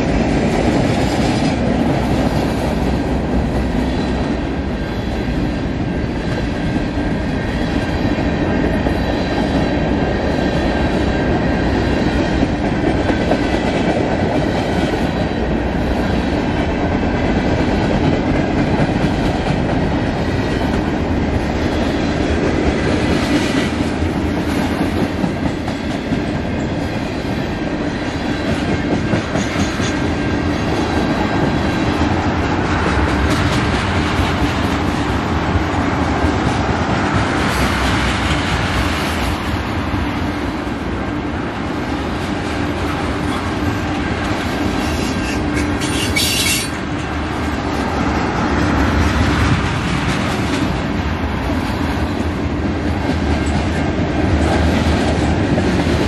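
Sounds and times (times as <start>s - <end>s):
freight cars rumbling on rails: 0.0s - 56.0s.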